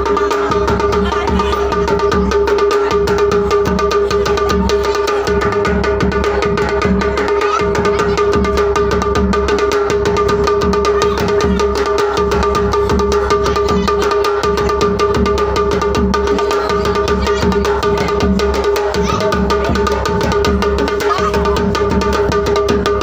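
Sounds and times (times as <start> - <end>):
loud music with fast drum beat: 0.0 - 23.0.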